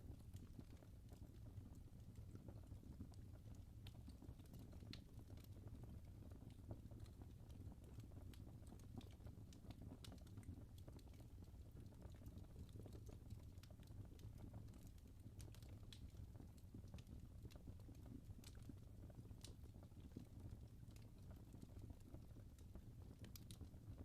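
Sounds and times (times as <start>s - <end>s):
low rumble of flames: 0.0s - 24.0s
wood fire crackling: 0.0s - 24.0s.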